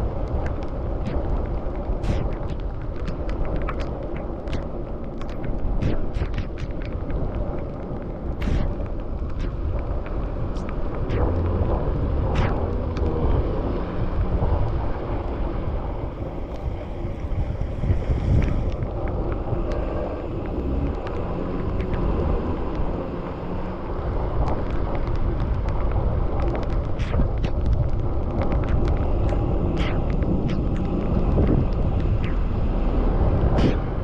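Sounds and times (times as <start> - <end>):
sharp ticks and clicks: 0.0 - 13.4, 14.0 - 34.0
wind buffeting microphone: 0.0 - 34.0.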